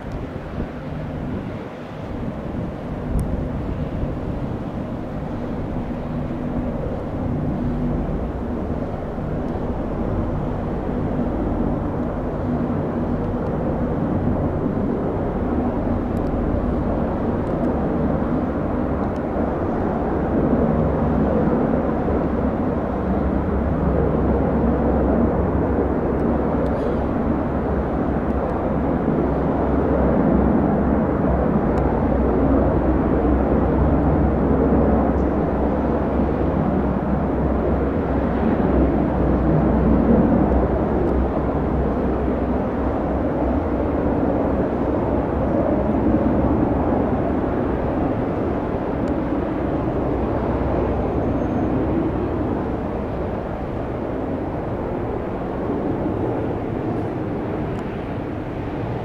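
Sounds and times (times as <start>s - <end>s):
helicopter rotor and turbine drone: 0.0s - 59.0s.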